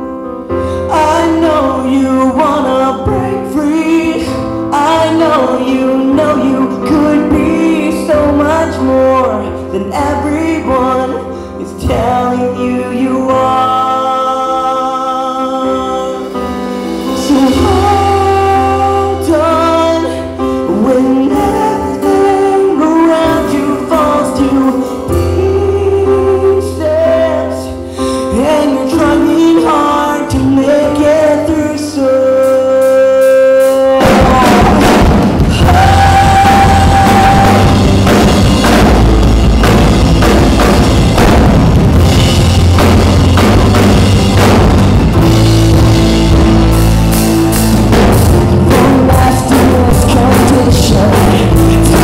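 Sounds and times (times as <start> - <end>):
drum kit: 0.0 - 52.0
live band playing pop-rock: 0.0 - 52.0
person singing: 0.0 - 52.0.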